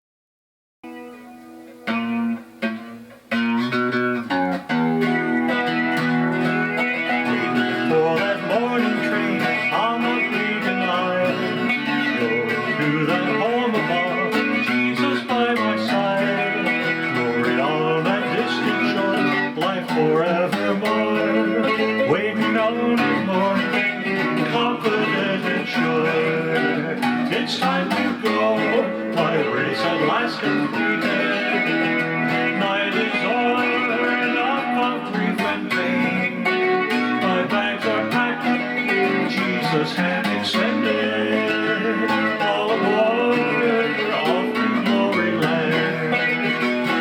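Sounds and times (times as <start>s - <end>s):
country gospel guitars with sliding notes: 0.8s - 47.0s.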